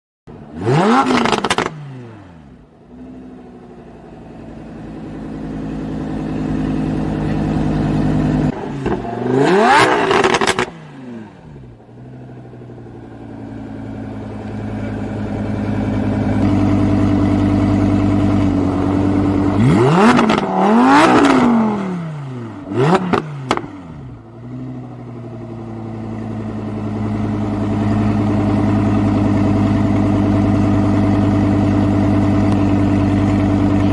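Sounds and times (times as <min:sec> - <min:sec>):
car engine revving and idling: 0:00.3 - 0:33.9.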